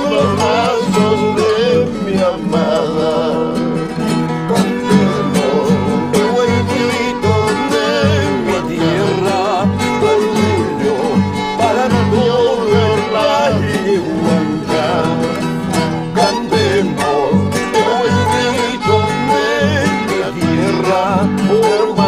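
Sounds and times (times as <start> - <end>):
guitar accompaniment: 0.0 - 22.0
violin melody: 0.0 - 22.0.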